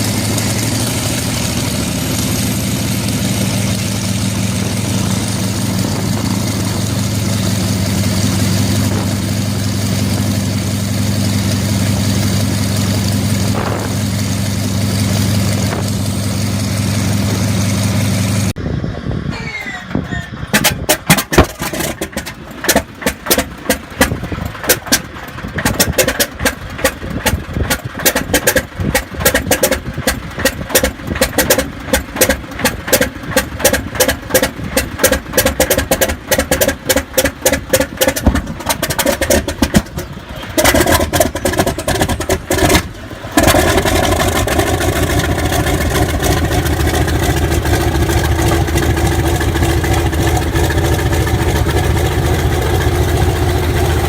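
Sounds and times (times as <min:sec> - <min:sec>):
propeller airplane engine starting: 0:00.0 - 0:54.0.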